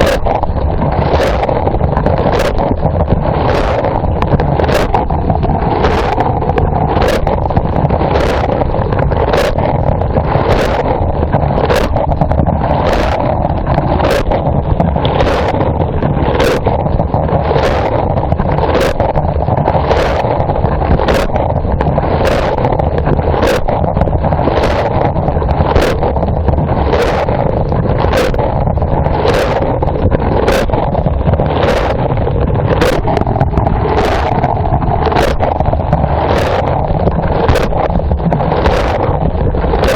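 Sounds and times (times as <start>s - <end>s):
pump humming: 0.0s - 39.9s.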